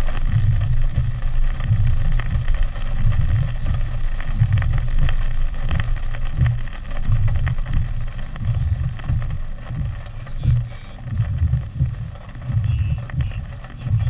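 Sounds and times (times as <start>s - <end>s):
steady hiss: 0.0s - 14.0s
wind buffeting microphone: 0.0s - 14.0s.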